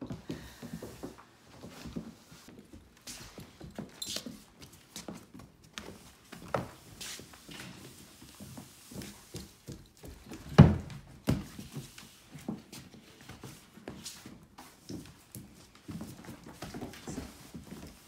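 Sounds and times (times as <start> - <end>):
push broom scuffing wooden floor: 0.4 - 18.0.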